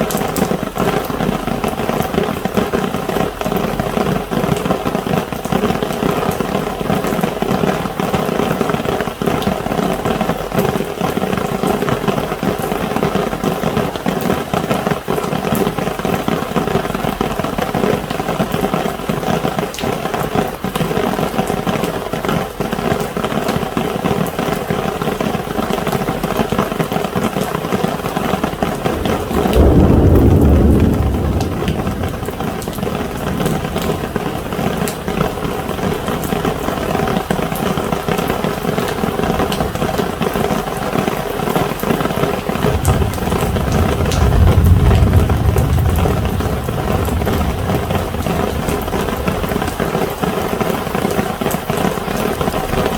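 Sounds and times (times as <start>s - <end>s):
rain pattering on umbrella: 0.0s - 52.9s.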